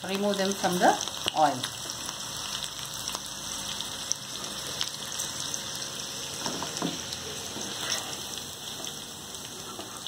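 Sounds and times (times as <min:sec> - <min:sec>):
hot oil sizzling: 0:00.0 - 0:10.0.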